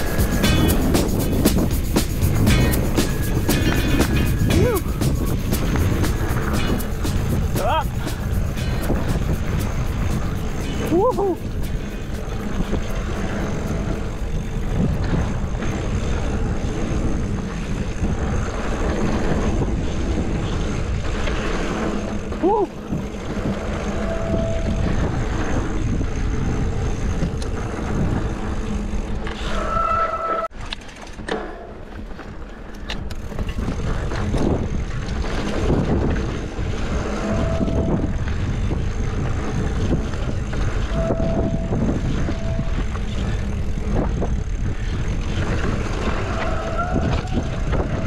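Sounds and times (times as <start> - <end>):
wind buffeting microphone: 0.0 - 29.4, 32.0 - 48.0
bike tyres on dirt: 0.0 - 48.0.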